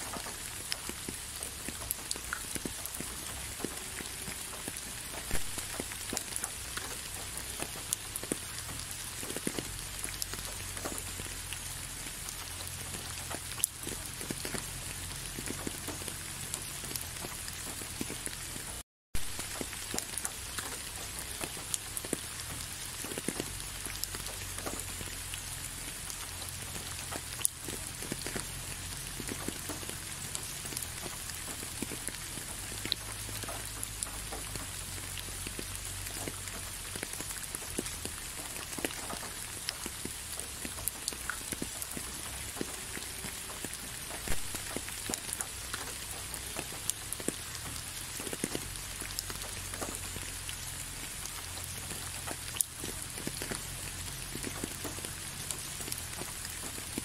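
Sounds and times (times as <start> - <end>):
raindrops ticking sharply: 0.0 - 57.0
steady rain hiss: 0.0 - 57.0.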